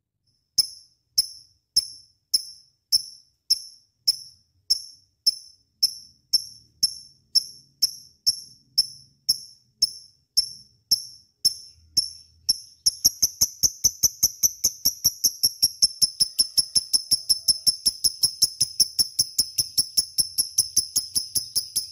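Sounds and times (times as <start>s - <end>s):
bird chirping: 0.6s - 21.9s.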